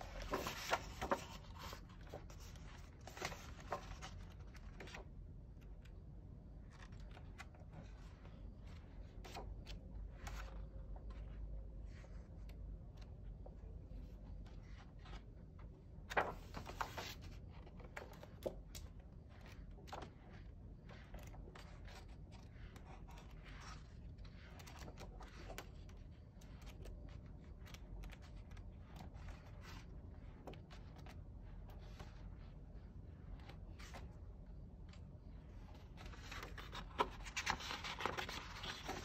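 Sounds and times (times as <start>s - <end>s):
paper pages turning: 0.0s - 13.5s, 14.4s - 34.2s, 34.9s - 39.0s.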